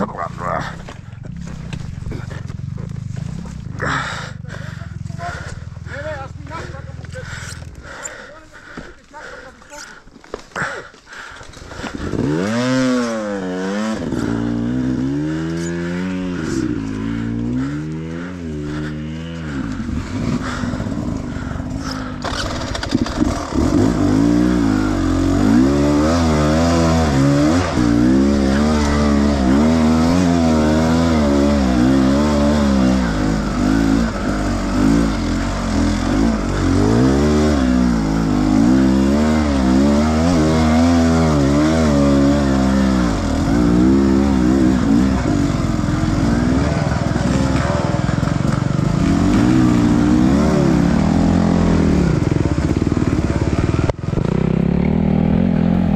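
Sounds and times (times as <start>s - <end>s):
motorcycle engine revving: 0.0s - 10.0s, 10.6s - 55.9s.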